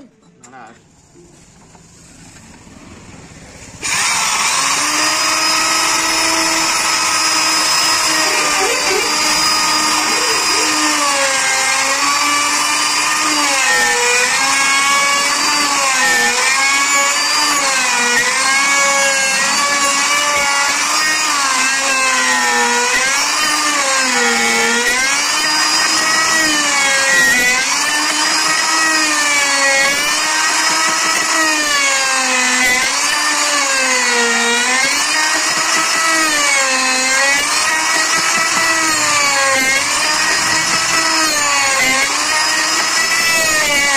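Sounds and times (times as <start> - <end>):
router whining cutting wood: 3.8 - 43.9.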